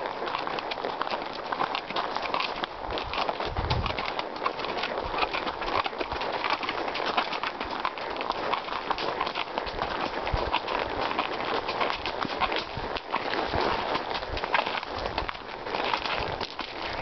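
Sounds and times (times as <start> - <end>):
hooves crunching on gravel: 0.0 - 17.0.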